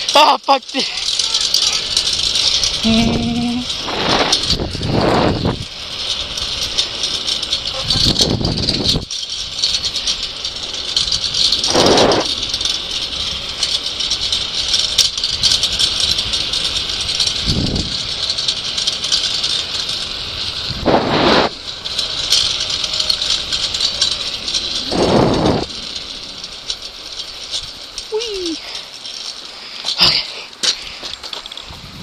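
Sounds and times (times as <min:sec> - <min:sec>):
wheels rolling over asphalt: 0:00.0 - 0:32.0.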